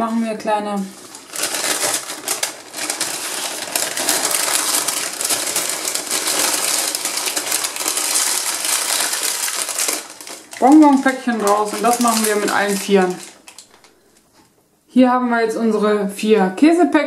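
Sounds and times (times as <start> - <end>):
baking paper crinkling: 0.6 - 14.5.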